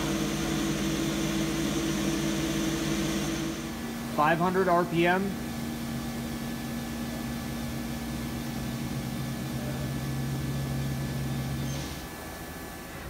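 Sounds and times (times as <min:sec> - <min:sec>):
lathe spindle humming: 0:00.0 - 0:12.2.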